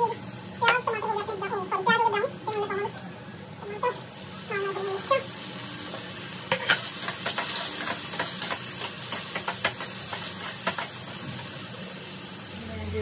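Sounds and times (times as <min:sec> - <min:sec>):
tomato sizzling in a frying pan: 0:00.0 - 0:13.0.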